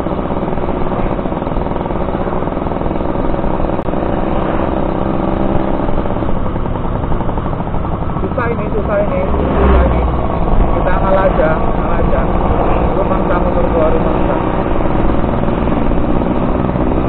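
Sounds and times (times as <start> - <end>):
two-stroke motorcycle engine running: 0.0 - 17.0.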